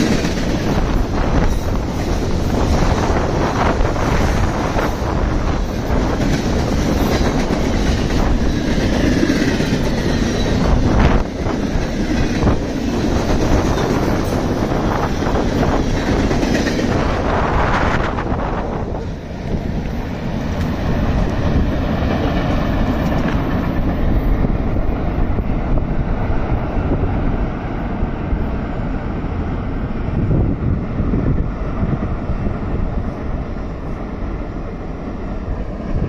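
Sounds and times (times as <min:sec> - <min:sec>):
freight train running: 0:00.0 - 0:36.0
wind rumble on microphone: 0:00.0 - 0:36.0.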